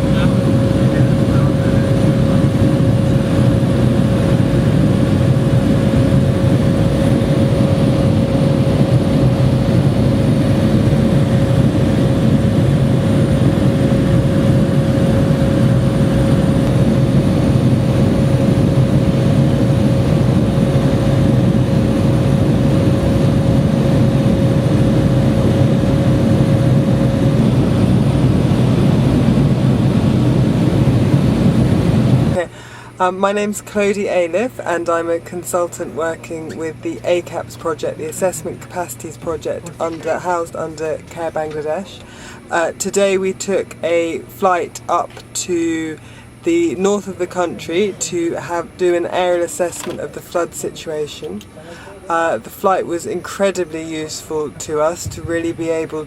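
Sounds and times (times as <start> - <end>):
propeller plane engine in flight: 0.0 - 56.0
thin steady whine: 0.0 - 56.0.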